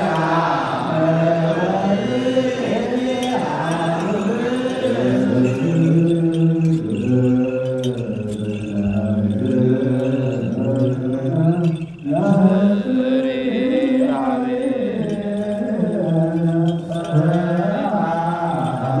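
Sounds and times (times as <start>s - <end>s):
low male voices chanting: 0.0s - 19.0s.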